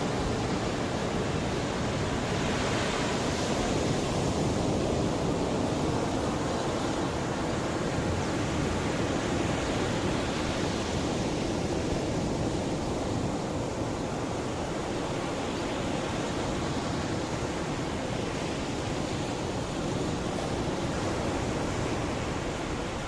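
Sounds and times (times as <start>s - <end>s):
sea waves washing against shore: 0.0s - 23.0s.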